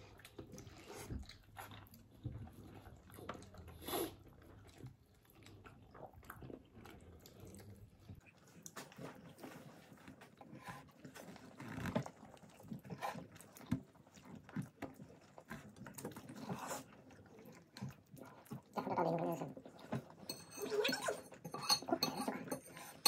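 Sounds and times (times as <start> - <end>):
people chewing and lip smacking: 0.0 - 23.0.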